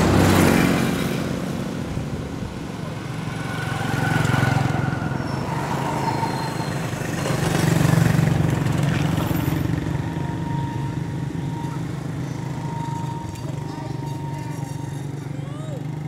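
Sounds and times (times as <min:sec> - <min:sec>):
passing traffic engine hum: 0:00.0 - 0:16.0.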